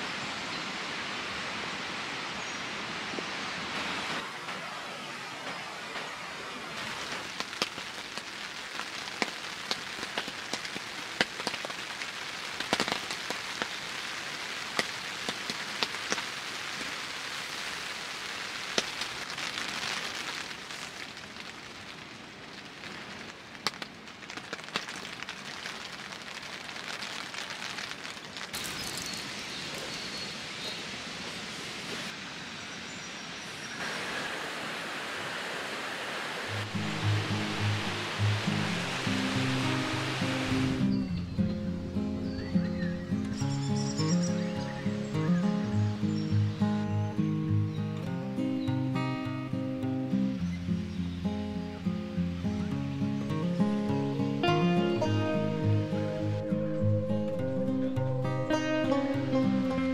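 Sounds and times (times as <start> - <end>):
rain on a tent: 0.0 - 41.1, 43.3 - 57.4.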